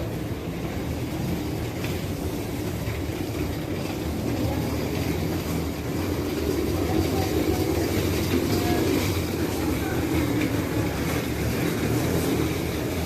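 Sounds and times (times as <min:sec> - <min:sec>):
moving vehicle rumble and rattle: 0:00.0 - 0:13.0.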